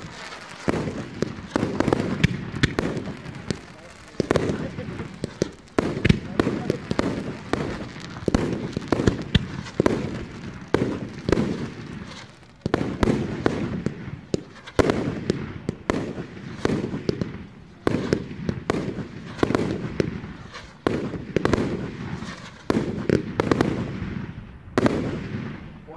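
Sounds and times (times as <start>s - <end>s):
fireworks bangs with rumble: 0.0s - 25.9s.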